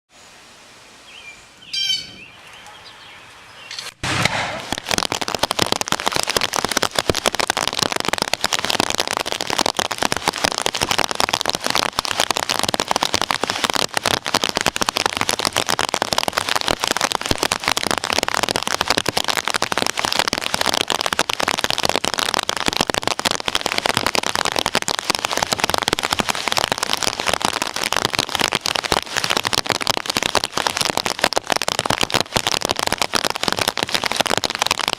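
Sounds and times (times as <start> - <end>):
heavy rain: 4.1 - 34.9.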